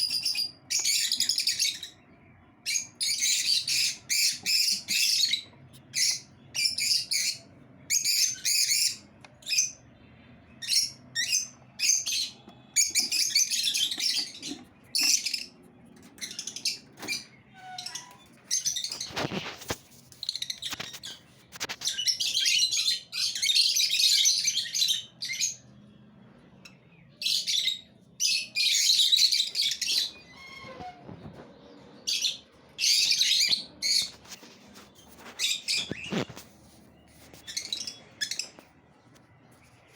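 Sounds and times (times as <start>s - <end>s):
lovebirds chirping shrilly: 0.0s - 25.7s, 27.1s - 38.8s.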